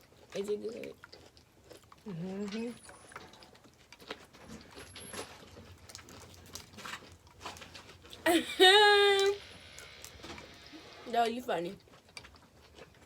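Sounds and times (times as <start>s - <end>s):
eating clicks and crackles: 0.0s - 8.3s, 9.7s - 13.0s.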